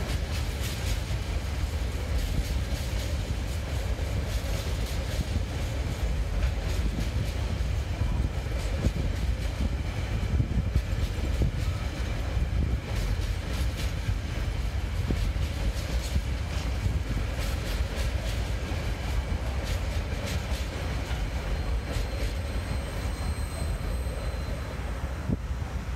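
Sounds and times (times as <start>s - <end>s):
wheels clicking on rails: 0.0s - 25.4s
freight train rumbling past: 0.0s - 25.9s.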